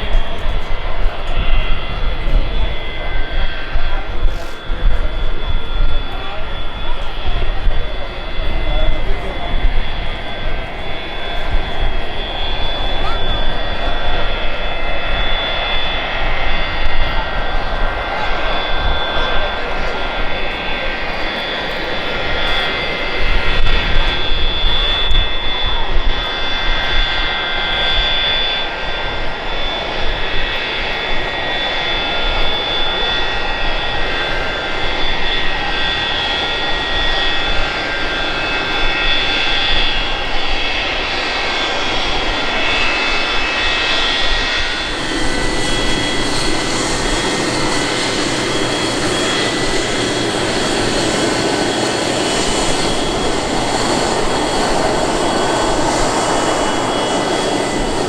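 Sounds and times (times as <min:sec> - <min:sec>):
aircraft engines whining: 0:00.0 - 0:58.0.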